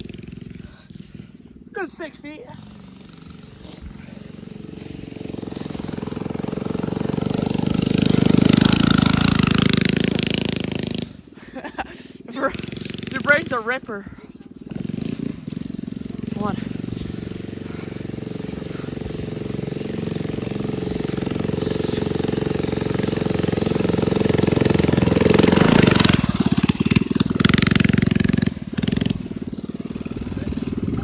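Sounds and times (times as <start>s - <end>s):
mini bike engine revving: 0.0s - 31.0s.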